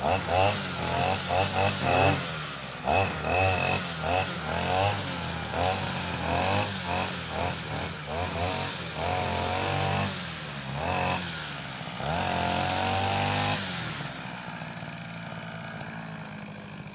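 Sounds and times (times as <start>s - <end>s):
grass trimmer engine revving: 0.0s - 16.9s.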